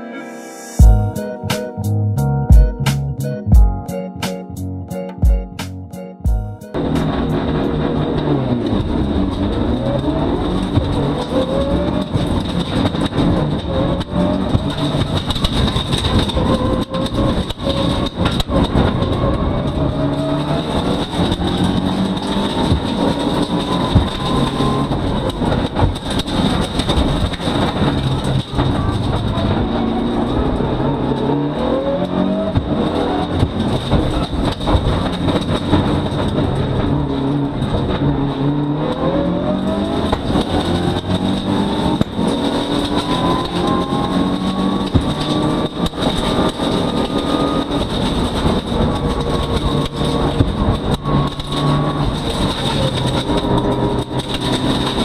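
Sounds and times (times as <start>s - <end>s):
car engine revving: 6.6s - 55.0s.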